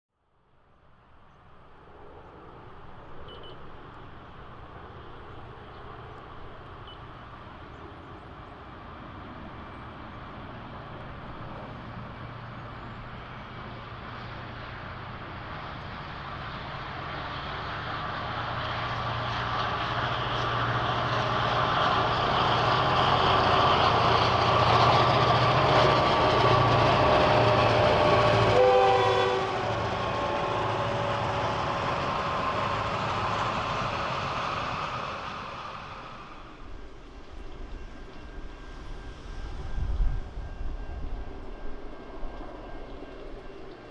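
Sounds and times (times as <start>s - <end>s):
diesel locomotives passing: 0.3s - 43.9s
railcar wheels rolling on rails: 0.8s - 43.9s.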